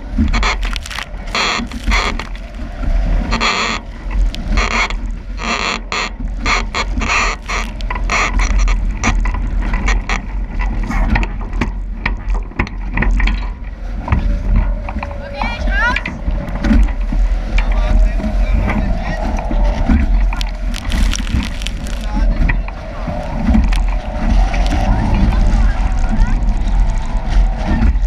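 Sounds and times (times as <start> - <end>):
rushing water and spray: 0.0 - 15.1, 16.1 - 28.0
wind buffeting microphone: 0.0 - 28.0.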